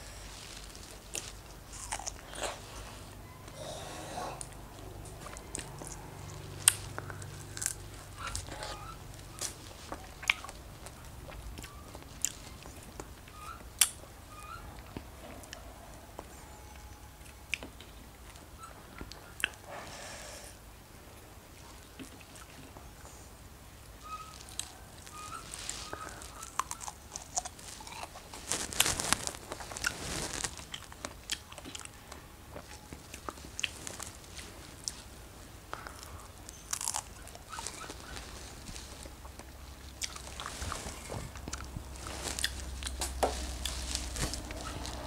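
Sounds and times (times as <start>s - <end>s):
strawberries bitten and chewed: 0.0s - 16.3s, 17.2s - 19.6s, 24.0s - 45.0s.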